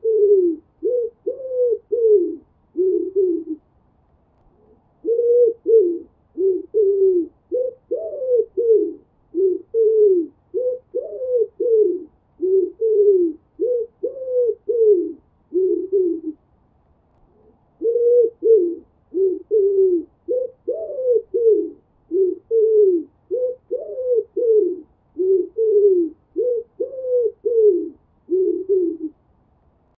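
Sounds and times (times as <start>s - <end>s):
pigeon cooing: 0.0s - 3.7s, 4.5s - 16.4s, 17.3s - 29.2s.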